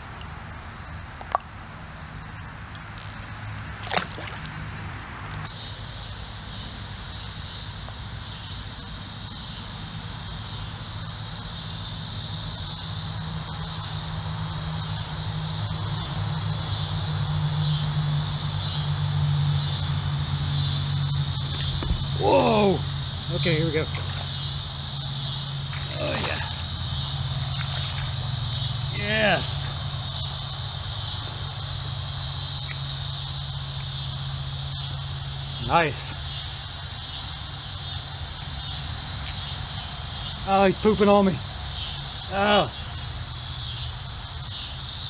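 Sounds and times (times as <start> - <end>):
insects high-pitched trill: 0.0 - 45.0
pulsing insect chorus: 0.0 - 45.0.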